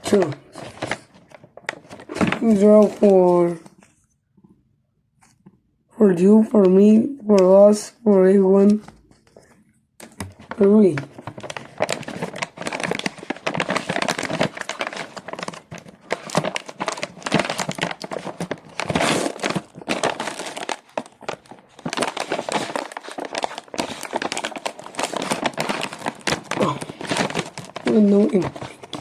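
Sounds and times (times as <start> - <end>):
plastic packaging crinkling: 0.0 - 4.1, 8.6 - 29.0.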